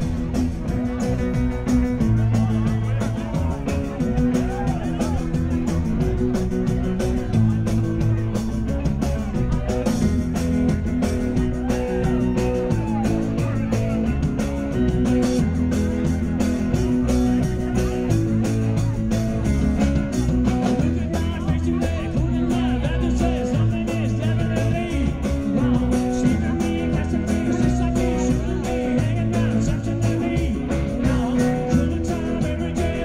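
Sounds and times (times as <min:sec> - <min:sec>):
electric guitar: 0:00.0 - 0:33.0
live rock band playing: 0:00.0 - 0:33.0.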